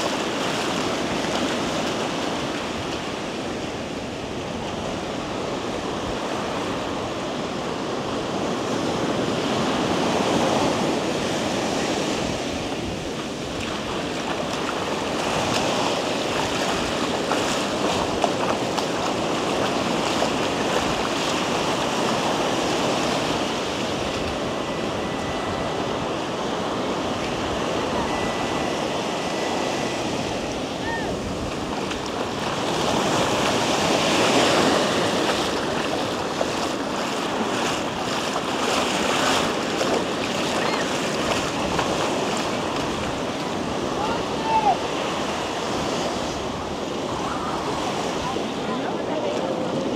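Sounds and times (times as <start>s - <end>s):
ocean surf breaking: 0.0s - 49.9s
wind buffeting microphone: 0.0s - 49.9s.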